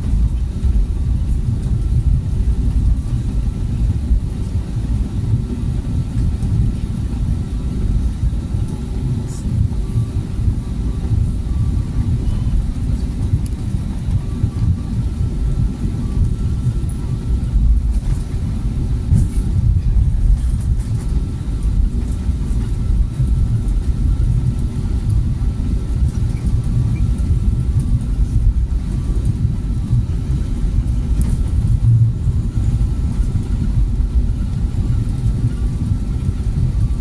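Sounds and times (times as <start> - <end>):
airplane engines rumbling in cabin: 0.0 - 37.0
faint steady whine: 0.0 - 37.0.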